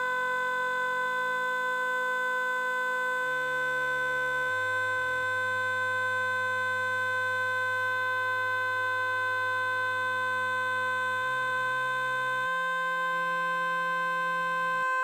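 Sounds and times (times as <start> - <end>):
steady electronic buzz tone: 0.0 - 15.0.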